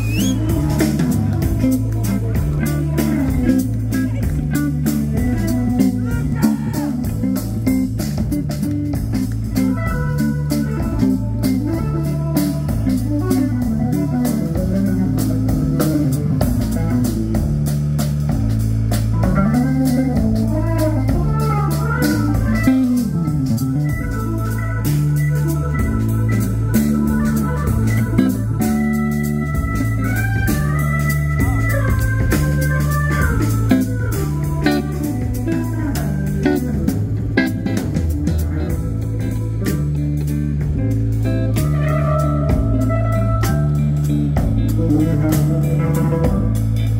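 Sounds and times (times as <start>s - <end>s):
drum kit: 0.0s - 46.9s
electric guitar: 0.0s - 46.9s
hammond organ: 0.0s - 46.9s
repeating bass line: 0.0s - 46.9s.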